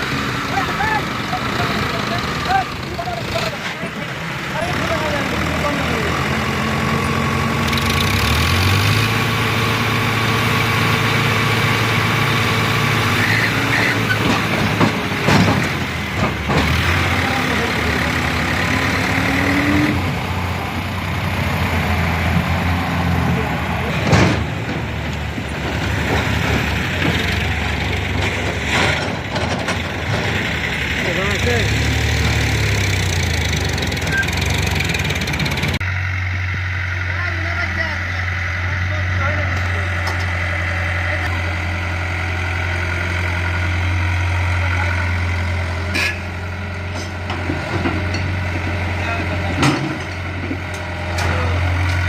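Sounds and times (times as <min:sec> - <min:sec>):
tractor engine rattling: 0:00.0 - 0:52.0.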